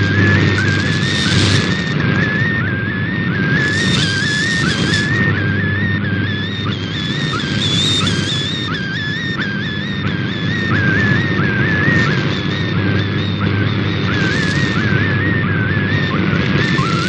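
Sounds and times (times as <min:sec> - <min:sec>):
static hiss: 0:00.0 - 0:09.7, 0:10.4 - 0:17.0
low interference hum: 0:00.0 - 0:17.0
warbling data tone: 0:00.0 - 0:17.0.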